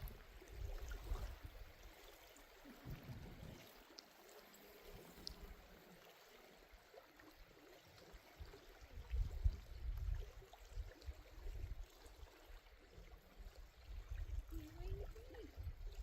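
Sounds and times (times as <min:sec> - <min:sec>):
water lapping and trickling: 0:00.0 - 0:16.0.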